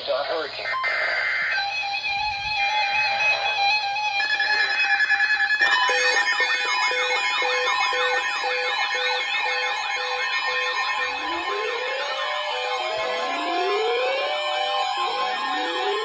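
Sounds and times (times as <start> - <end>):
steady alarm tones: 0.0 - 16.0
repeating alarm beep: 0.5 - 16.0
warbling alarm sweeps: 0.7 - 16.0.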